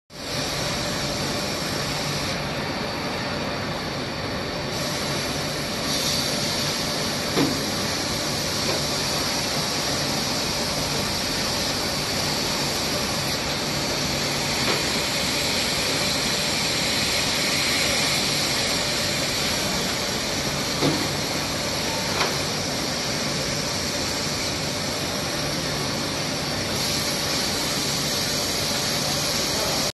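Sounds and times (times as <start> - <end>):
machinery hiss and hum: 0.1 - 29.9.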